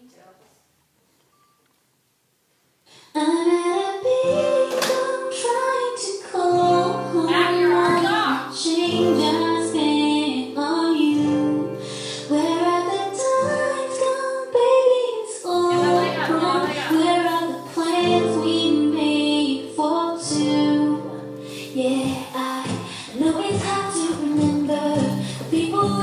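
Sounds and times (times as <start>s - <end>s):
young female voice singing: 3.1s - 26.0s.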